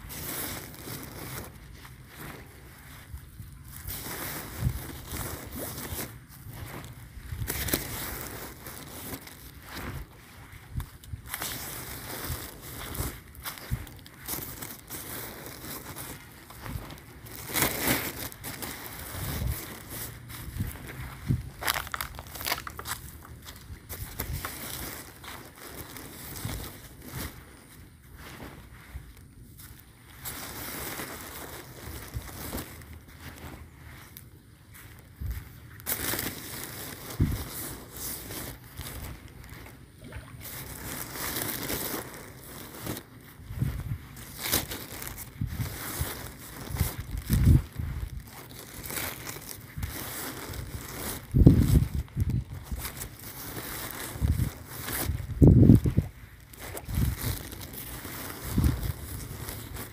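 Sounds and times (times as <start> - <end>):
footsteps through dry grass: 0.0 - 59.9.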